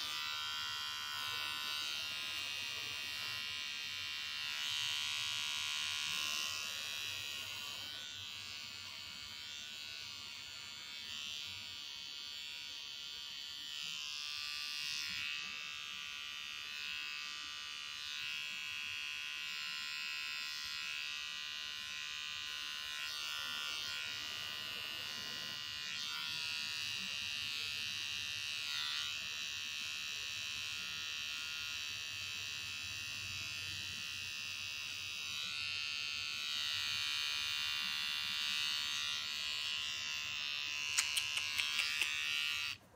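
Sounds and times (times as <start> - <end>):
electric pet clipper buzzing: 0.0 - 42.9.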